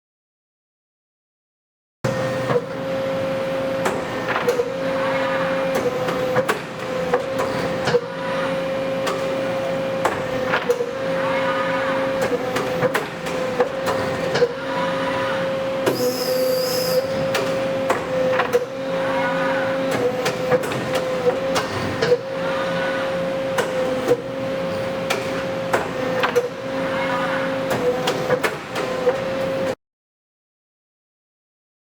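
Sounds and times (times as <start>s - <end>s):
rising and falling motor whines: 2.1s - 27.9s
steady machine whine: 2.1s - 27.9s.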